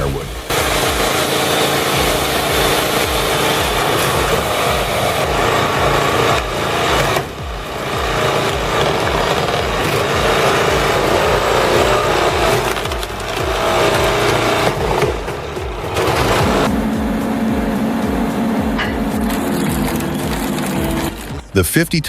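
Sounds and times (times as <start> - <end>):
wood splitting: 0.0 - 16.8, 17.9 - 21.6
log splitter engine running: 0.0 - 22.0.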